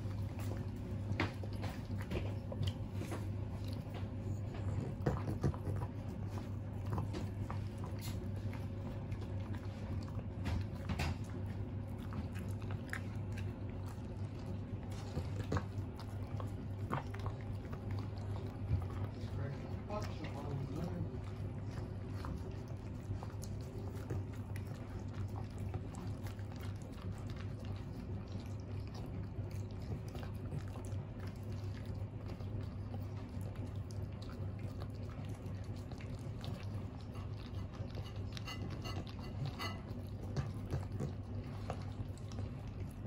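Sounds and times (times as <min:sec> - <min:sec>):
dogs chewing and licking: 0:00.0 - 0:43.0
steady low hum: 0:00.0 - 0:43.0.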